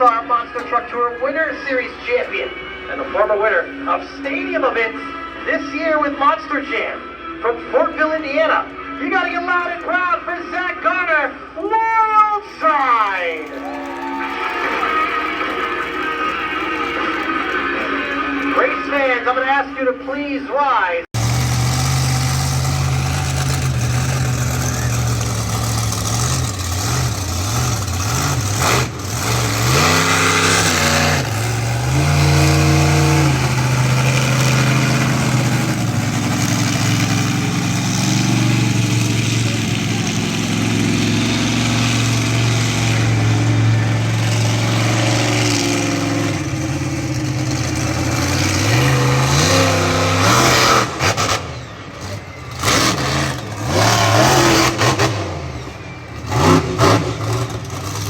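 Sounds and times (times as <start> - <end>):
truck engine revving: 0.0 - 11.6, 12.4 - 20.0, 21.0 - 58.0.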